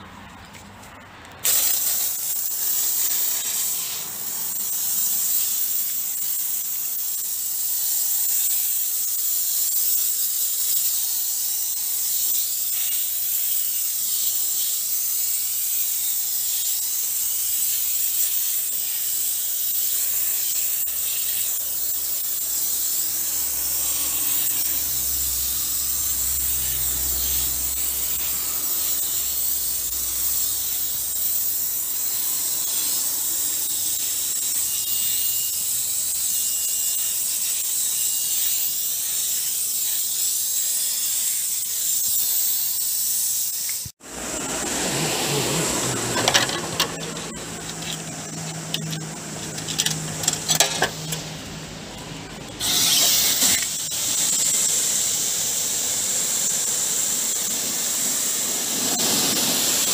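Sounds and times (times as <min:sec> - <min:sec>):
pressure washer spraying: 0:01.4 - 0:59.9.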